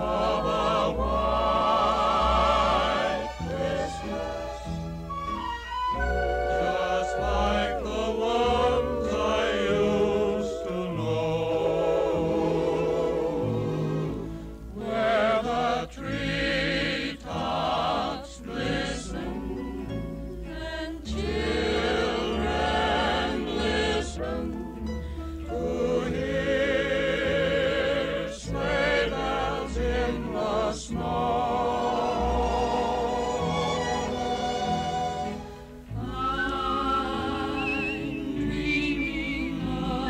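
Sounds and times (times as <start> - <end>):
choir singing sustained notes: 0.0 - 40.0
instrumental accompaniment: 0.0 - 40.0.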